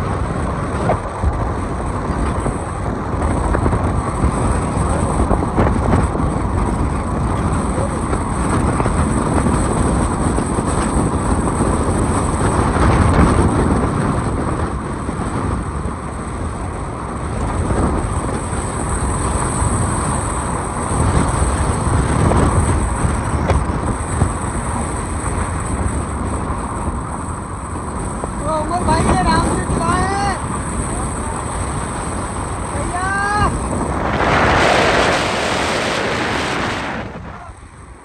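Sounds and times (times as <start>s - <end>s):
wind noise: 0.0s - 38.0s.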